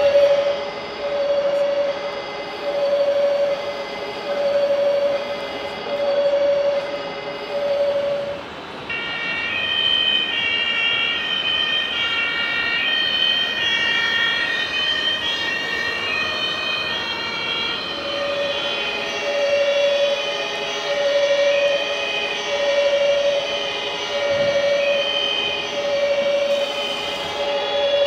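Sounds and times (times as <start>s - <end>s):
hall noise: 0.0s - 28.0s
lower siren tone: 0.0s - 28.0s
two-tone siren: 0.0s - 28.0s.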